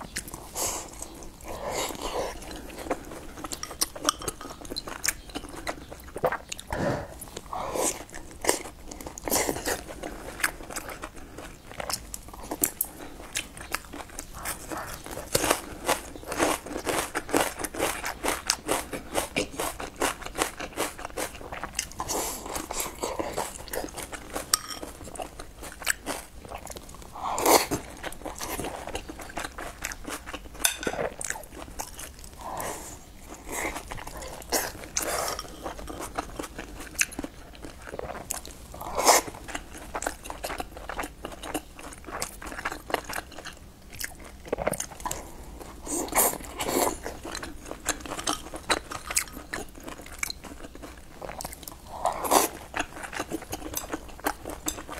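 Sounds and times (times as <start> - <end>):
chewing soft buns: 0.0 - 54.9.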